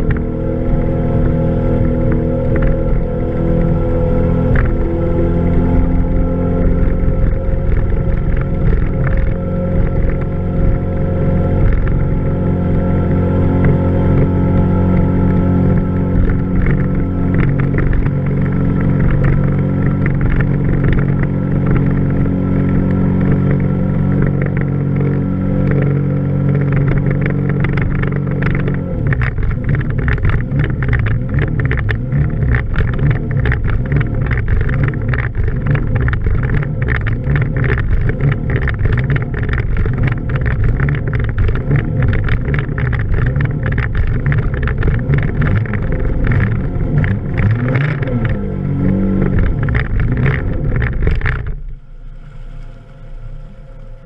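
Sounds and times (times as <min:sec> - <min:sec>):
rotary boat engine running: 0:00.0 - 0:54.0.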